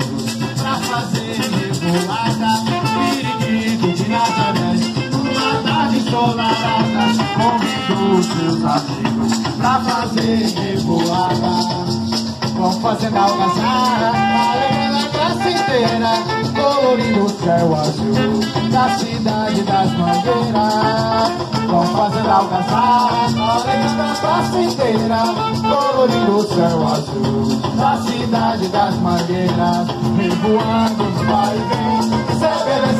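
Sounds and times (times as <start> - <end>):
band playing: 0.0 - 32.9
hand drums: 0.0 - 32.9
maracas: 0.0 - 32.9.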